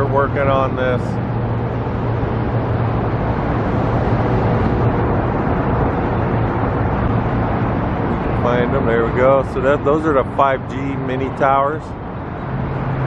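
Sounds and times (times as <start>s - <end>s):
vehicle running with low hum: 0.0s - 13.0s.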